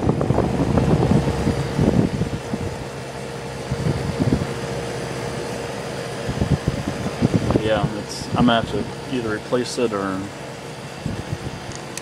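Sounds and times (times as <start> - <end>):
dehumidifier fan humming: 0.0 - 12.0.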